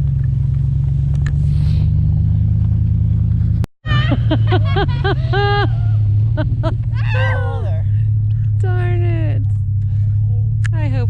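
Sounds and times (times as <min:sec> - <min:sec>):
pickup truck engine droning: 0:00.0 - 0:11.0.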